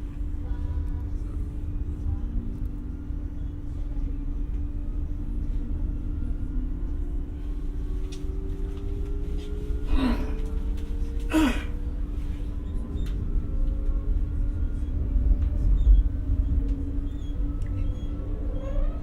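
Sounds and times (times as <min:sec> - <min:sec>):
train rumble inside carriage: 0:00.0 - 0:19.0.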